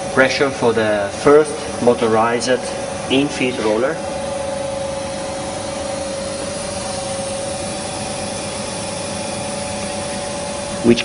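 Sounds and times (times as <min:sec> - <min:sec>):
workshop machinery humming: 0:00.0 - 0:11.0.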